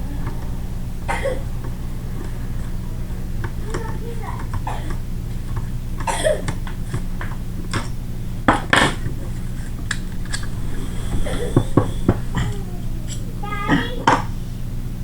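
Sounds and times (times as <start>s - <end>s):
steady low hum: 0.0s - 6.4s, 7.0s - 14.0s.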